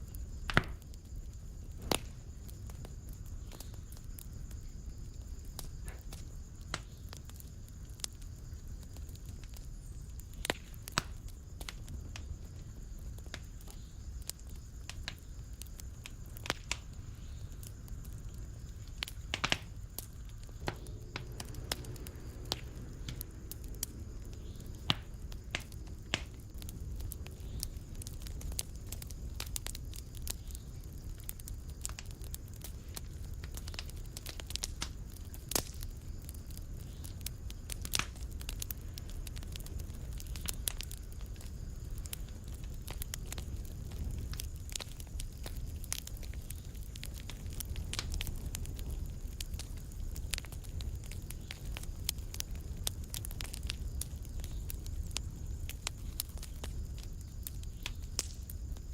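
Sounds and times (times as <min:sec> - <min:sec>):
fireplace fire crackling: 0:00.0 - 0:58.9.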